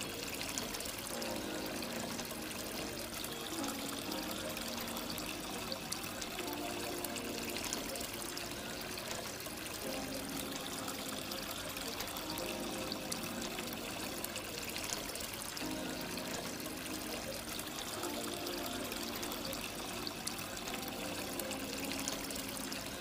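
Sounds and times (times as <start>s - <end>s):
fountain water trickling and pouring: 0.0s - 23.0s.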